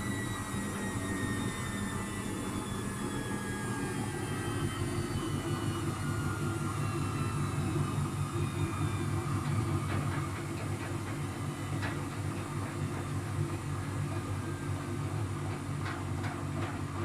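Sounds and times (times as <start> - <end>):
washing machine running down: 0.0 - 17.0.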